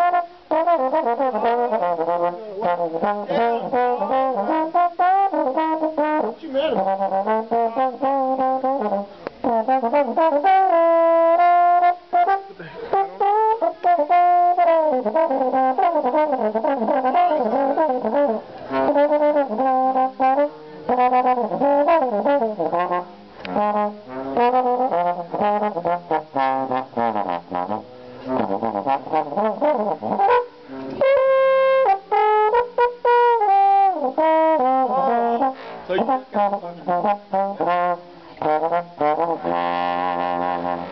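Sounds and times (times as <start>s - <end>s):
brass music led by trombone: 0.0s - 40.9s.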